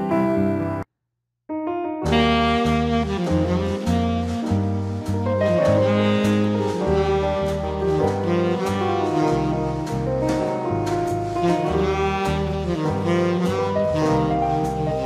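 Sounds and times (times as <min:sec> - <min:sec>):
bass line: 0:01.5 - 0:15.0
saxophone-like lead: 0:02.0 - 0:15.0.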